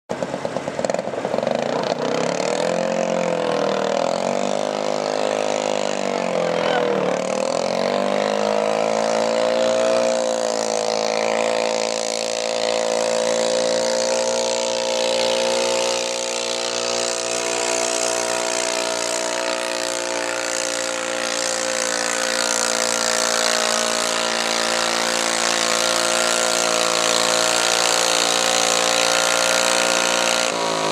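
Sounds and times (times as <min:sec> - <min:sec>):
tractor engine revving: 0:00.1 - 0:30.9.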